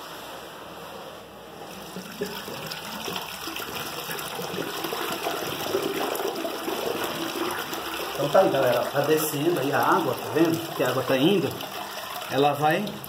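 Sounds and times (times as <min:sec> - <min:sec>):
water gushing into a drain: 0:01.6 - 0:13.0.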